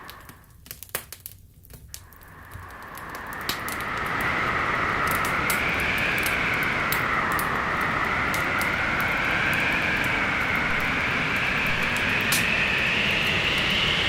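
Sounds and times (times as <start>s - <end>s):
storm wind howling: 0.0s - 0.4s, 1.9s - 14.0s
wood fire popping and crackling: 0.0s - 13.8s.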